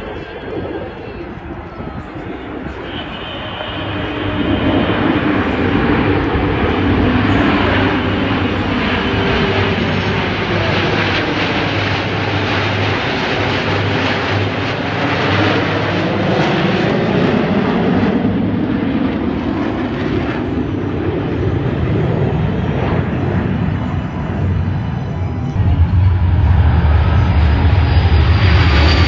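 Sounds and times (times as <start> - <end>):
jet aircraft roaring past: 0.0 - 29.0.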